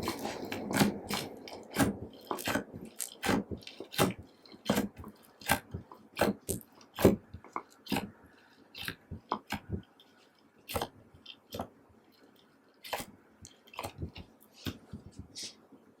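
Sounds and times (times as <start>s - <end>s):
hands squishing slime: 0.0s - 11.7s, 12.8s - 15.5s.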